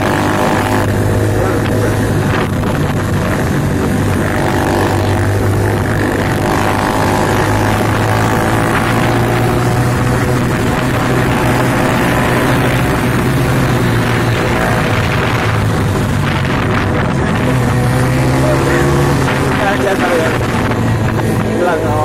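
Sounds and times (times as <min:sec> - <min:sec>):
motorcycle engine cruising: 0:00.0 - 0:22.0
road noise: 0:00.0 - 0:22.0
wind noise: 0:00.0 - 0:22.0.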